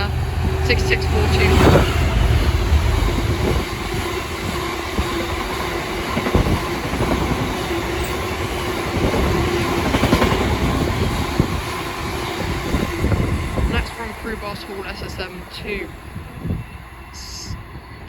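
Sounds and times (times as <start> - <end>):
train wagons rumbling: 0.0 - 18.0.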